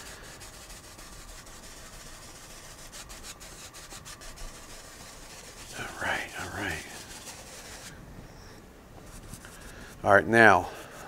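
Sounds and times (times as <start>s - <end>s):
paintbrush scrubbing on canvas: 0.0s - 8.0s, 9.0s - 11.0s.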